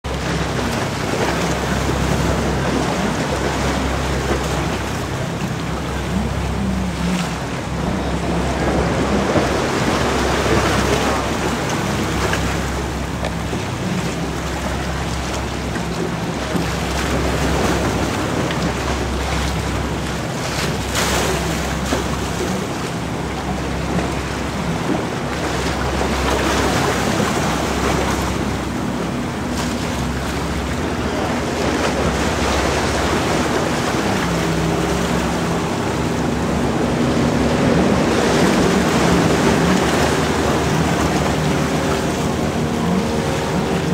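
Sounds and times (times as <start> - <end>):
boat engine drone: 0.0 - 43.9
choppy water splashing: 0.0 - 43.9.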